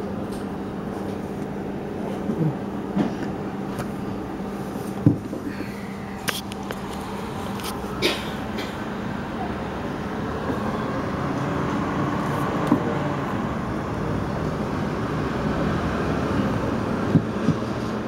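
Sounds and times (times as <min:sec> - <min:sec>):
tram motor hum: 0:00.0 - 0:18.0.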